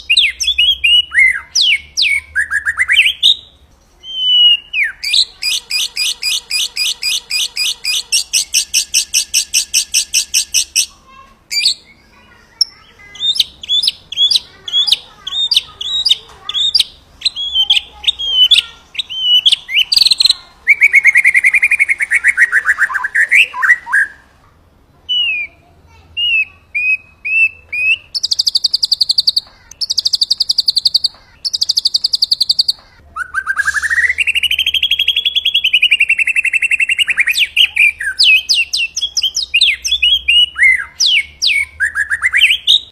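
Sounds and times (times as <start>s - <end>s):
buzzy bird trills: 0.0s - 24.3s, 25.1s - 42.9s
songbird singing whistled notes: 0.0s - 24.3s, 25.1s - 42.9s.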